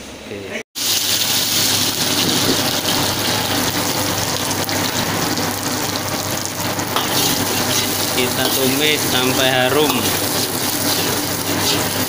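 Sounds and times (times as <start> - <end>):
food sizzling in hot oil: 0.8 - 12.0.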